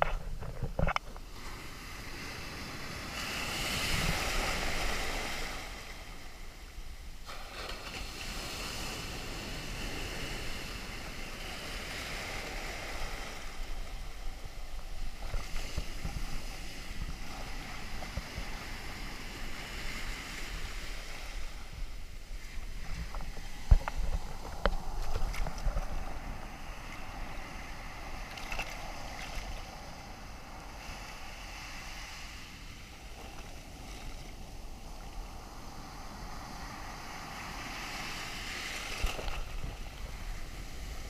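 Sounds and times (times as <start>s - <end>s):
surf breaking and foaming: 0.0s - 41.0s.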